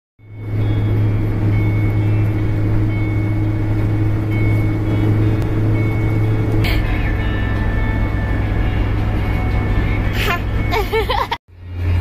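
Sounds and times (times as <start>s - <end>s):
car engine and road hum: 0.2s - 12.0s.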